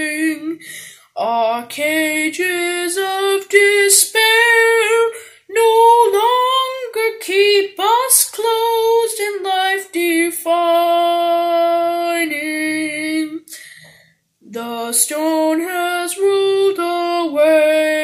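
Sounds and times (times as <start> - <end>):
boy singing a hymn: 0.0 - 13.8, 14.4 - 18.0.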